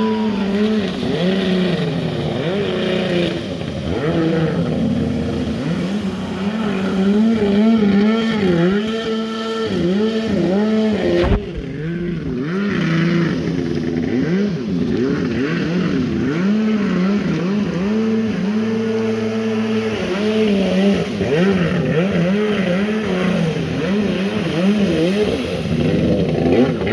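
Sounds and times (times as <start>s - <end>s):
two-stroke engine revving: 0.0s - 26.9s.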